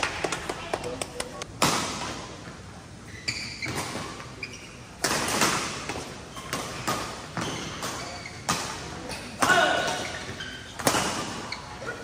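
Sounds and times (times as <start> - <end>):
shoes squeaking on court: 2.4 - 12.0.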